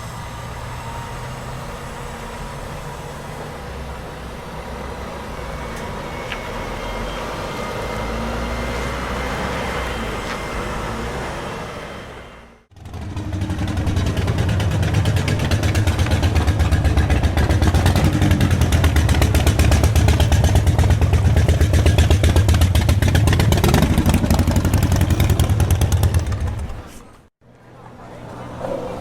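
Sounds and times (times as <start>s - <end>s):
vehicle engine running: 0.0s - 27.3s.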